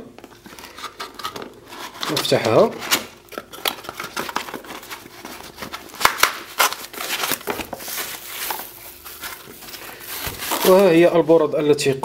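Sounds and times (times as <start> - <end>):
cardboard and foam rustling: 0.4 - 12.0.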